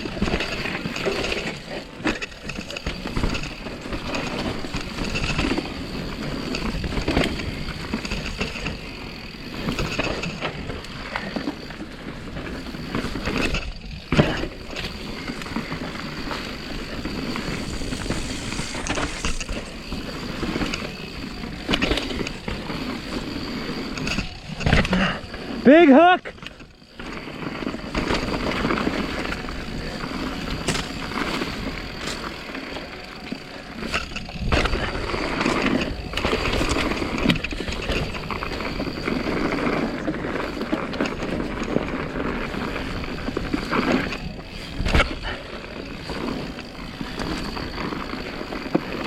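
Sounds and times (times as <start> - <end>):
bike rattling over bumps: 0.0 - 49.0
bike tyres crunching over dirt: 0.0 - 49.0.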